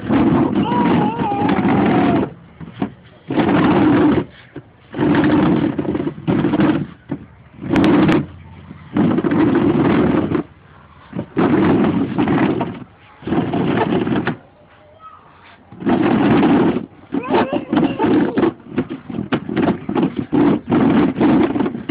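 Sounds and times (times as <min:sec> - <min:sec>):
plastic chair scraping on concrete: 0:00.0 - 0:14.4, 0:15.4 - 0:21.9.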